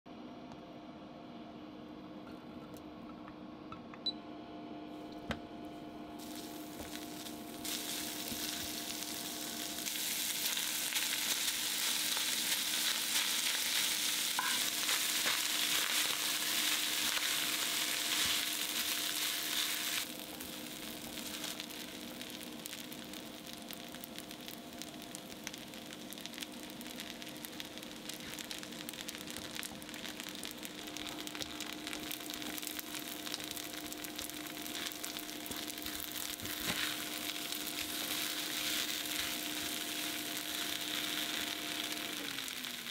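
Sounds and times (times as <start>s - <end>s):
faint steady hum: 0.1s - 42.9s
meat sizzling in frying pan: 6.2s - 42.9s.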